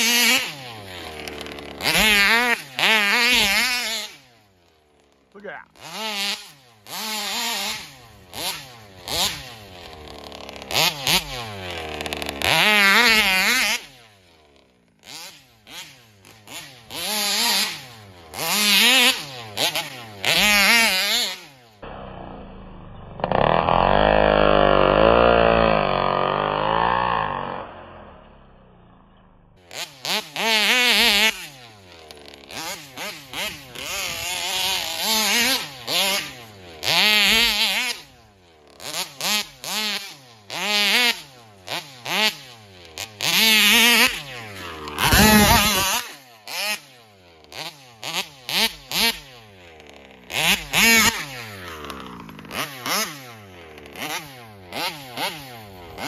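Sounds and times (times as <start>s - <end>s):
rc car engine revving: 0.0s - 56.0s.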